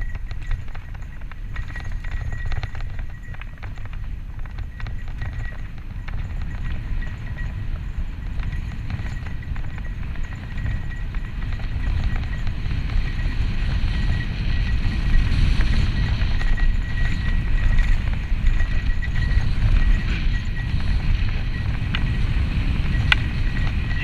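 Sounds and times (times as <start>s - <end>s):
bicycle rattling over bumps: 0.0s - 24.0s
wind buffeting camera: 0.0s - 24.0s.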